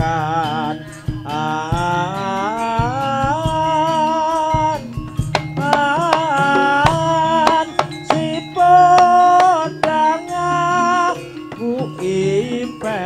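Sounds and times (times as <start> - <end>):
drum strokes: 0.0 - 12.5
sliding melody: 0.0 - 13.0.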